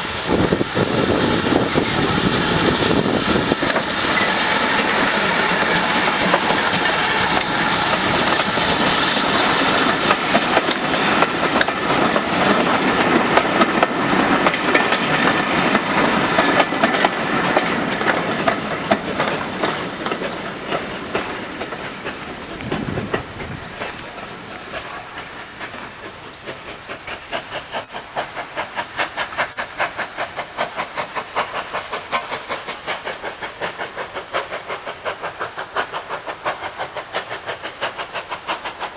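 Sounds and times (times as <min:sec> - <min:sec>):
steam locomotive hissing and running: 0:00.0 - 0:38.9.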